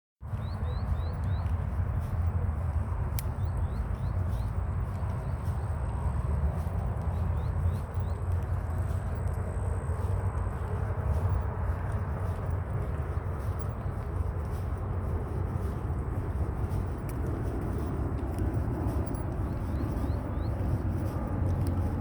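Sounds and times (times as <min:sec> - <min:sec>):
low rumble: 0:00.3 - 0:22.0.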